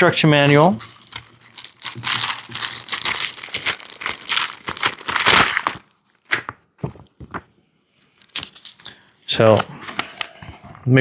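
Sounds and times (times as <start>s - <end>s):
packaging crinkling and rustling: 0.2s - 7.5s, 8.1s - 10.7s.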